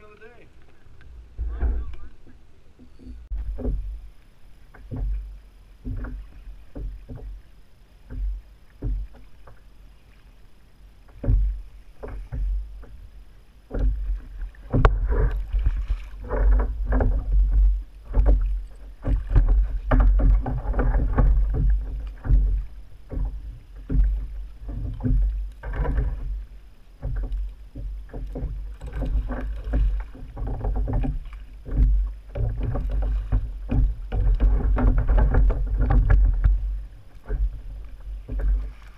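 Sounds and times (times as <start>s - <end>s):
knocks against kayak hull: 1.3s - 4.1s, 4.7s - 9.6s, 11.1s - 13.0s, 13.7s - 38.9s.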